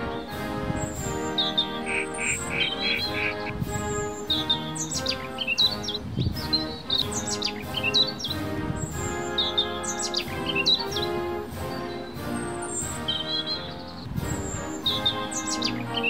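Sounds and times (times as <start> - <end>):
birds chirping: 0.0 - 16.0
music of sustained chords: 0.0 - 16.0.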